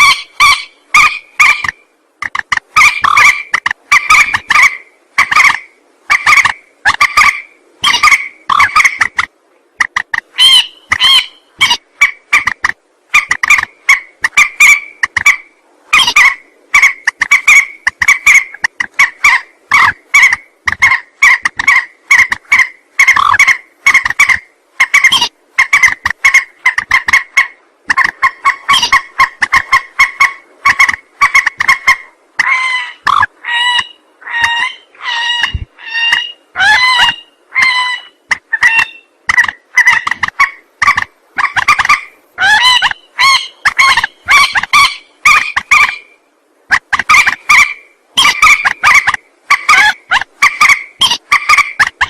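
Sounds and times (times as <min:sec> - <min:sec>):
waterbird honking calls: 0:00.0 - 0:09.2, 0:09.8 - 0:46.1, 0:46.7 - 0:52.0.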